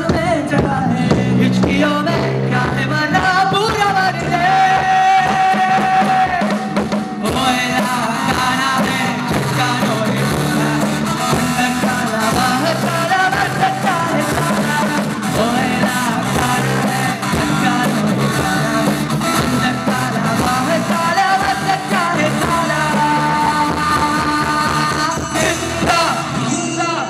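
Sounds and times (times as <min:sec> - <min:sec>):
electric guitar: 0:00.0 - 0:27.0
keyboard: 0:00.0 - 0:27.0
man singing into microphone: 0:00.0 - 0:27.0.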